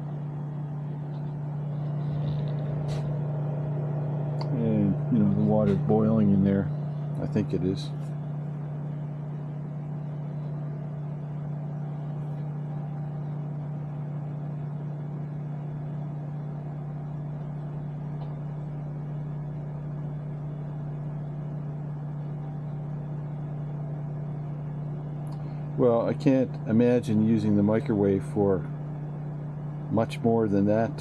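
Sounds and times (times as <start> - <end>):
microwave oven humming: 0.0 - 31.0.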